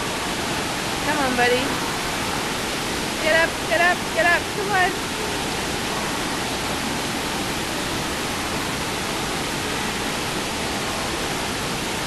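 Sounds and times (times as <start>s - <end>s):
running and falling water: 0.0s - 12.0s.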